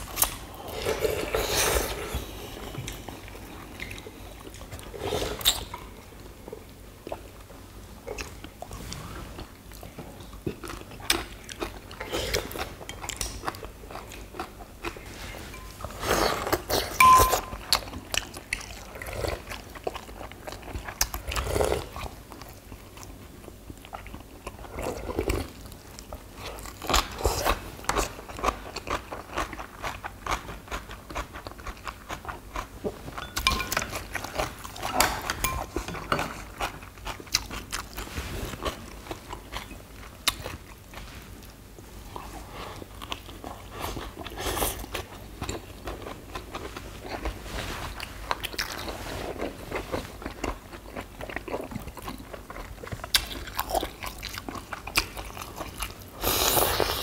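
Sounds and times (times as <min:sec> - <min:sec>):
chewing: 0:00.1 - 0:41.5, 0:42.1 - 0:57.0.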